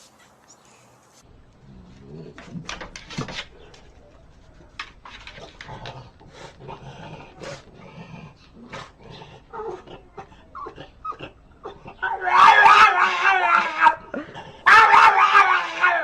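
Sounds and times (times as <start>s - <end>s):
dog making low sounds: 1.6s - 16.0s.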